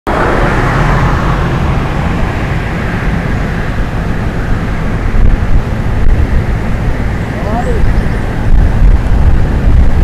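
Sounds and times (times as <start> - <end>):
vehicle engine and tyre rumble: 0.1 - 10.0.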